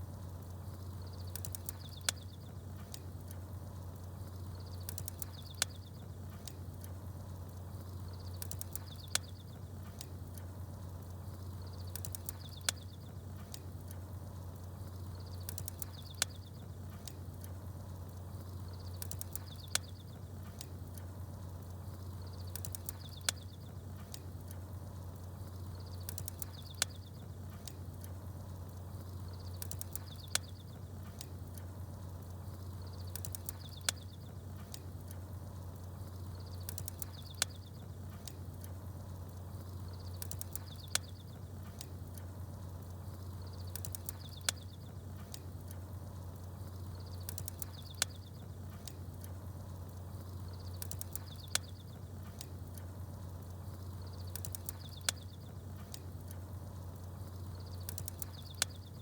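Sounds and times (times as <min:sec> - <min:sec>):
steady low hum: 0:00.0 - 0:59.0
wood fire crackling: 0:00.0 - 0:59.0
small birds chirping: 0:00.2 - 0:59.0.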